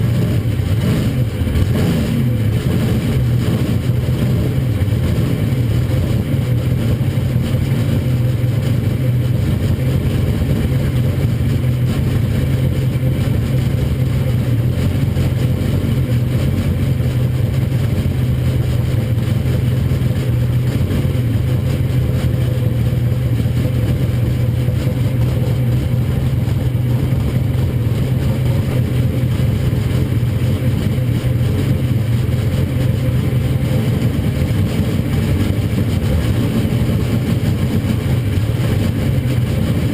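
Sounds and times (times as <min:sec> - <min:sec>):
truck engine low rumble: 0:00.0 - 0:39.9.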